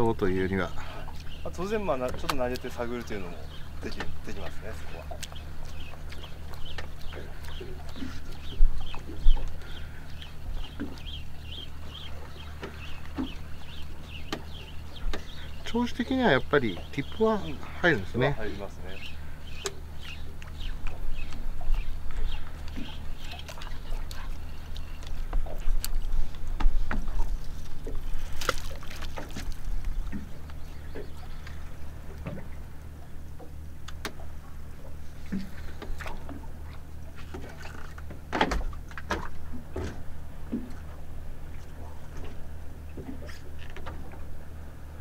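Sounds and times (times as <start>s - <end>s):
boat engine idling: 0.0s - 45.0s
water sloshing against hull: 0.0s - 45.0s.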